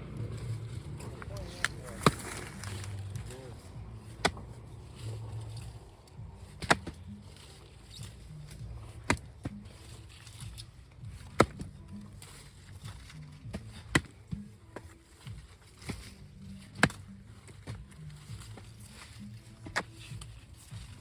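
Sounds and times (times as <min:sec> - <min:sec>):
hand tool striking soil: 0:00.0 - 0:21.0.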